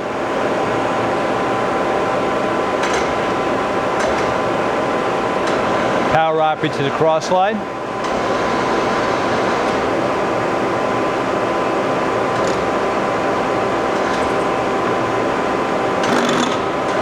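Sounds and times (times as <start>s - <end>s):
lathe running with hum and whine: 0.0s - 17.0s.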